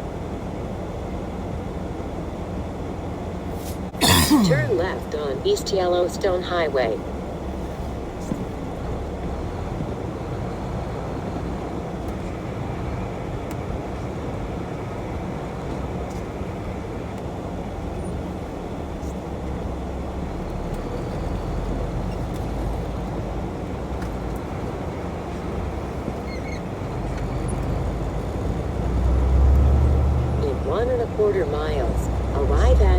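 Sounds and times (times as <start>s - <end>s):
road noise: 0.0s - 32.9s
truck engine drone: 0.0s - 32.9s.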